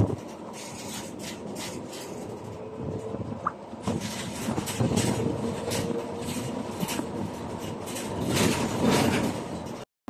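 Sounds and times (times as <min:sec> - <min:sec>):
bus engine and tyre noise: 0:00.0 - 0:09.9
rattles and bumps: 0:00.0 - 0:09.9.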